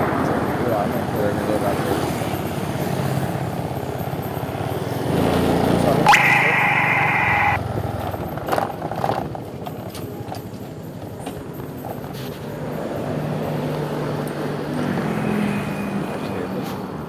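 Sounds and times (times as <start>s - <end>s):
vehicle engine hum: 0.0s - 16.8s
roadside traffic: 0.0s - 17.0s.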